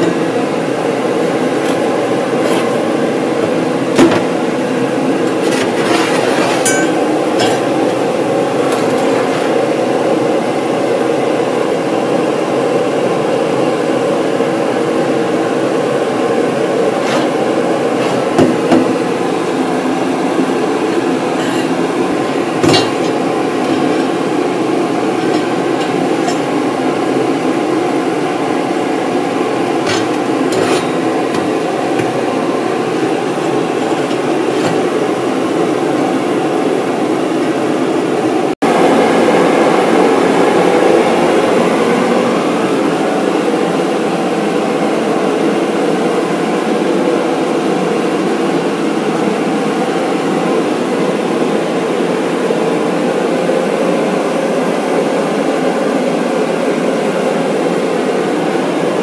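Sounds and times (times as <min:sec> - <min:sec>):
gas turbine engine roaring: 0:00.0 - 0:59.0.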